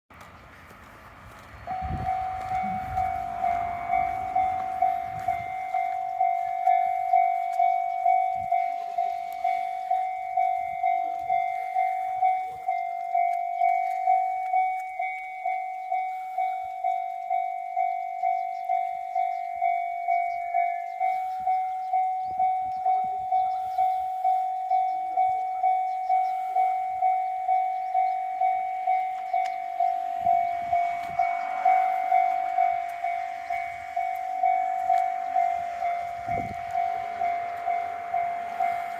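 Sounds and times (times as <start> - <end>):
level crossing warning bell: 0.1 - 38.9.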